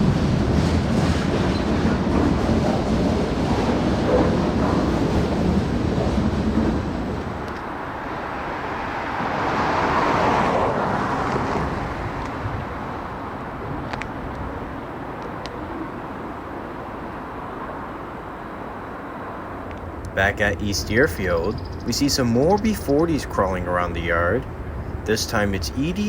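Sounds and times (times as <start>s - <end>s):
broad rushing noise: 0.0s - 26.0s
freight train rumbling on rails: 0.0s - 26.0s
outdoor background noise: 0.0s - 26.0s.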